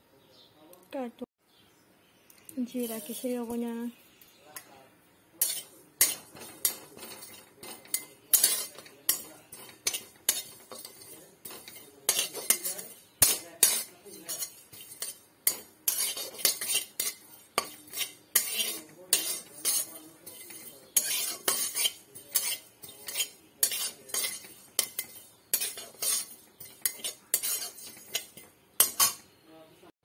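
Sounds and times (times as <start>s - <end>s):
metal spatula scraping wok: 2.6s - 3.9s, 5.4s - 29.3s.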